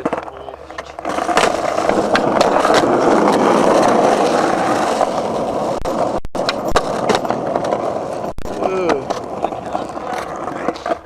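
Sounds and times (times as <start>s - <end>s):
skateboard wheels on concrete: 0.0s - 11.0s.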